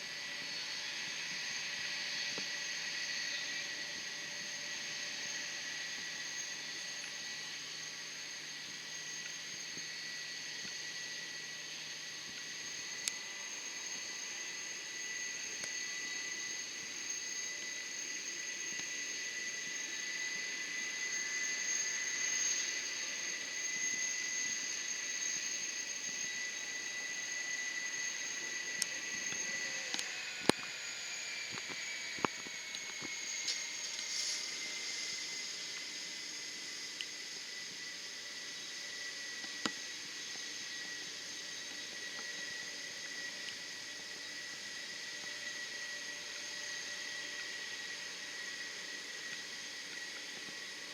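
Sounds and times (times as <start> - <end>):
distant jet engines whining: 0.0 - 50.9.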